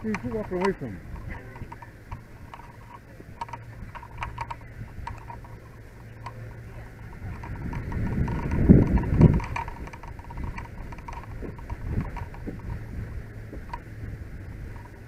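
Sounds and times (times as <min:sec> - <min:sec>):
gear clicking and ticking: 0:00.0 - 0:15.0
steady low hum: 0:00.0 - 0:15.0.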